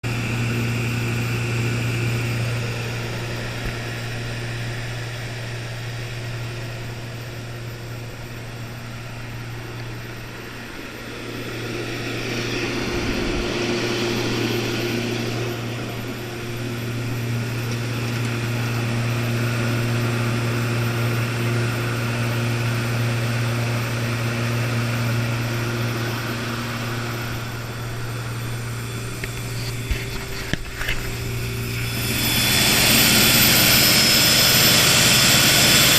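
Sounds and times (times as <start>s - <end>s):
diesel generator running: 0.0s - 35.9s.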